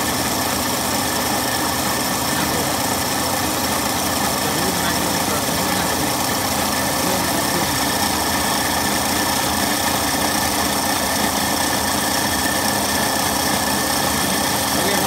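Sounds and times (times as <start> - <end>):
electric motor whirring and whining: 0.0 - 15.0.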